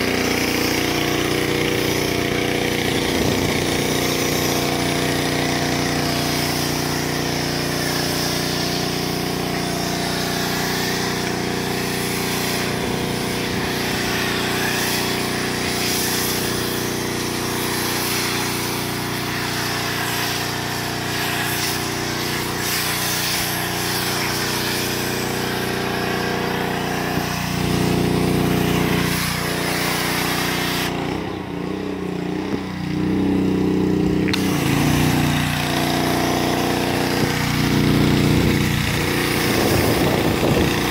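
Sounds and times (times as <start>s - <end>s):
water and foam spraying hiss: 0.0s - 33.5s, 34.2s - 40.9s
pressure washer petrol engine running: 0.0s - 40.9s.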